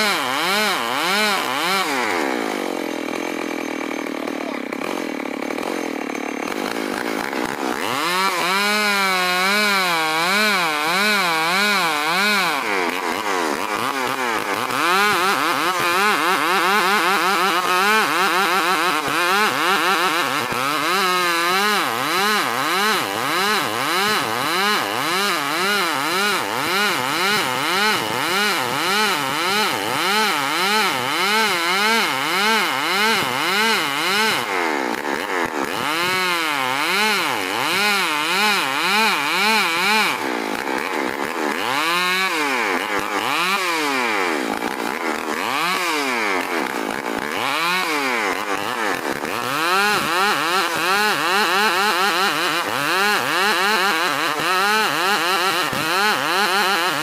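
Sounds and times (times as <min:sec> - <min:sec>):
chainsaw ripping a log: 0:00.0 - 0:57.0.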